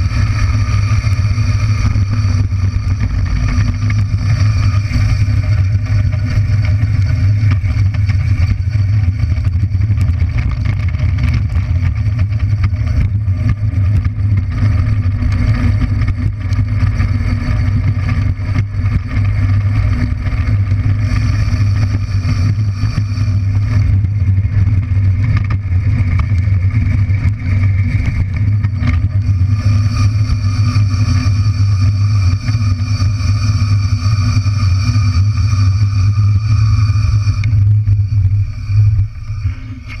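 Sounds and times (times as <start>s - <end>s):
wheels rumbling on asphalt: 0.0s - 40.0s.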